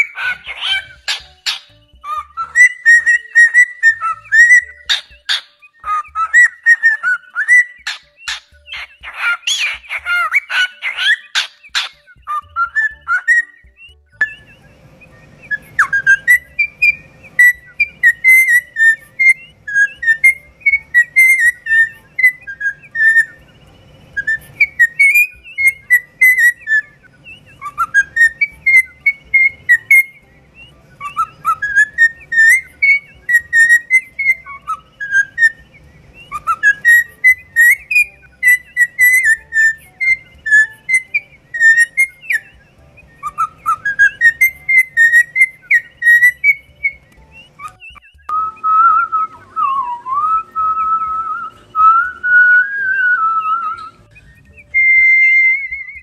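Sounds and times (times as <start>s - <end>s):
cockatiel whistling: 0.0s - 56.0s.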